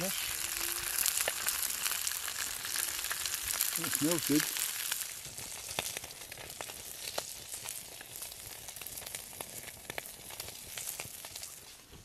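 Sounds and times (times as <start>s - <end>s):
fish sizzling in oil: 0.0s - 12.0s
oil popping and crackling: 0.0s - 12.0s.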